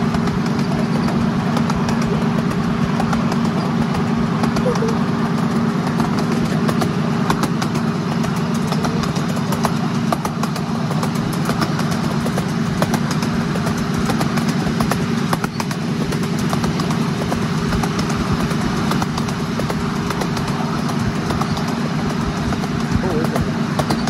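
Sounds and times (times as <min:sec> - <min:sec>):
small engine running: 0:00.0 - 0:24.0
wheels clicking on track: 0:00.0 - 0:24.0.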